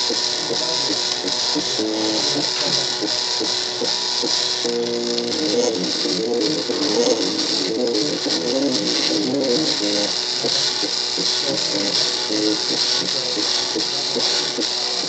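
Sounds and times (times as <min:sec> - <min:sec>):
steady high hiss: 0:00.0 - 0:15.0
stepper motors whining: 0:00.0 - 0:15.0.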